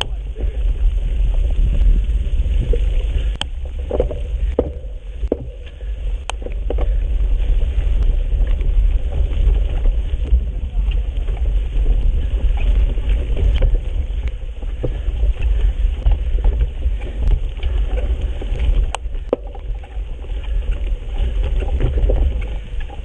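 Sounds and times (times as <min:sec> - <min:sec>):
bike clicks and rattles: 0:00.0 - 0:23.0
wind rumble on camera: 0:00.0 - 0:23.0.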